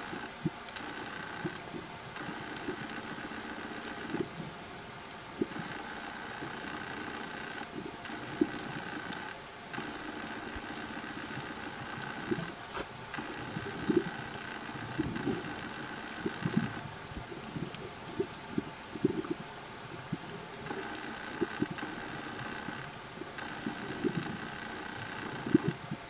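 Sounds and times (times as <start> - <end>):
low pops and clicks: 0.0 - 26.0
motor-like hum underwater: 0.0 - 26.0.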